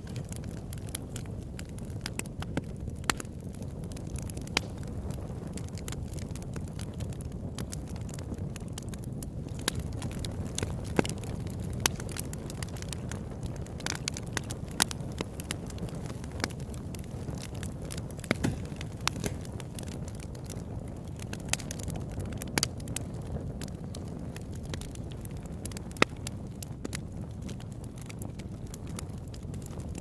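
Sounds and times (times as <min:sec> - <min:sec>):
flames rumbling: 0:00.0 - 0:30.0
wood popping and crackling: 0:00.0 - 0:30.0.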